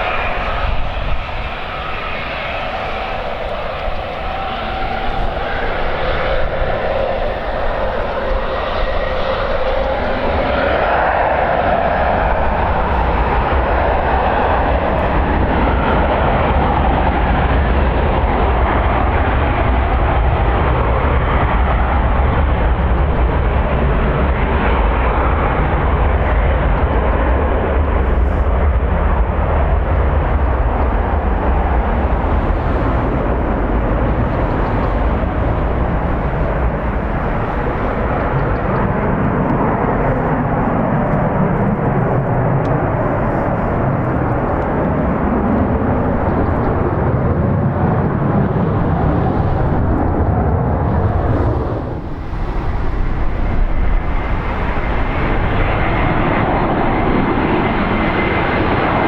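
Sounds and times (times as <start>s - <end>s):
jet engines: 0.0s - 59.0s
wind rumbling on microphone: 0.0s - 59.0s.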